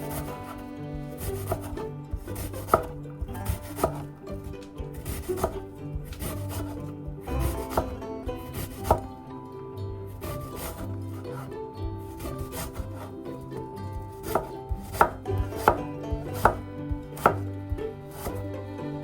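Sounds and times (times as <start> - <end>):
knife chopping on cutting board: 0.0 - 9.2, 10.1 - 13.3, 13.9 - 18.4
knife scraping cutting board: 0.0 - 9.2, 10.1 - 13.4, 14.0 - 16.6, 17.2 - 17.5, 18.1 - 18.4.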